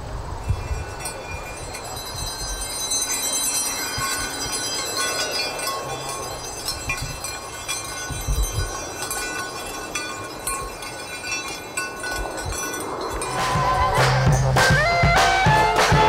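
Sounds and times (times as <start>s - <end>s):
high ringing tones: 0.4s - 16.0s.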